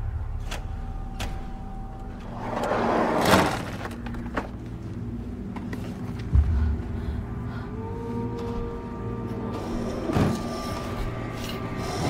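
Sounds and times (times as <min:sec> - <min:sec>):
low steady drone: 0:00.0 - 0:12.0.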